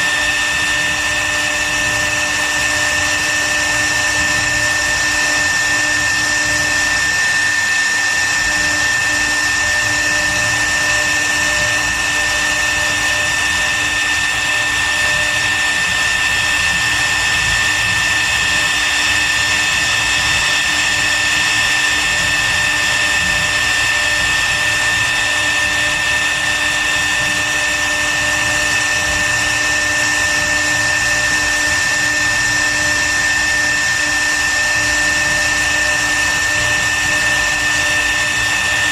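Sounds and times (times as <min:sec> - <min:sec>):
router spindle high whine: 0:00.0 - 0:38.9
wood machining noise: 0:00.0 - 0:38.9.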